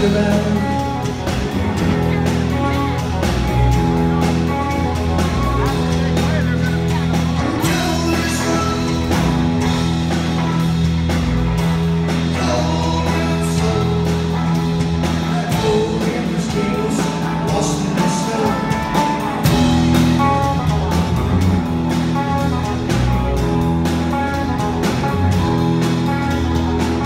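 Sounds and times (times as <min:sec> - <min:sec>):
live rock band playing: 0:00.0 - 0:27.0.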